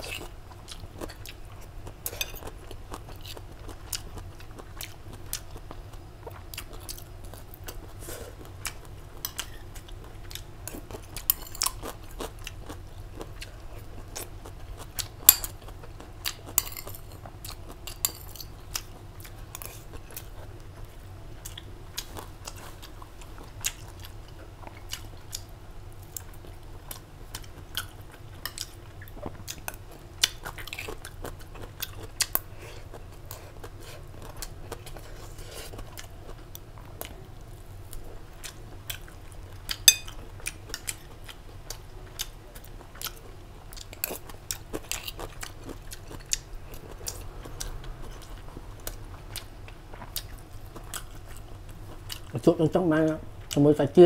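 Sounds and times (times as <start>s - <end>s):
person chewing and crunching food: 0.0s - 53.7s.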